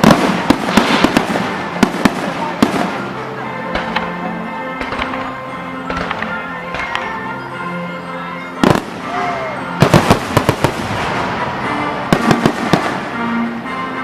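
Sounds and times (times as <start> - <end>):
fireworks bangs and crackles: 0.0 - 7.3, 8.6 - 13.6
music with held notes: 0.0 - 14.0.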